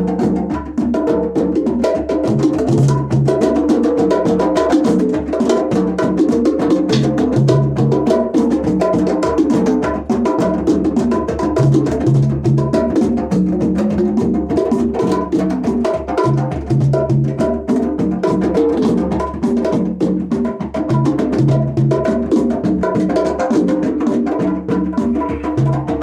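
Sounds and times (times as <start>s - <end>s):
fast hand drumming: 0.0s - 26.0s.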